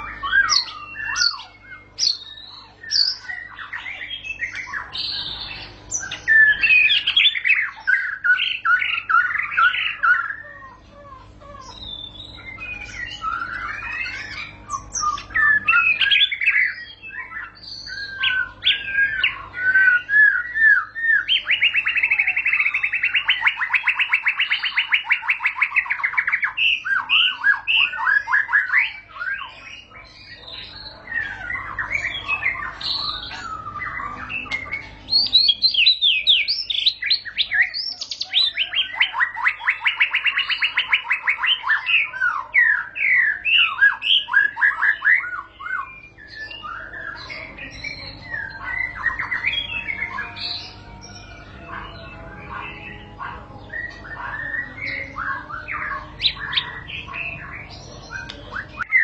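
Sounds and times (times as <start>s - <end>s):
bird singing whistled phrases: 0.0s - 10.9s, 11.6s - 59.0s
fast bird trill: 0.0s - 59.0s.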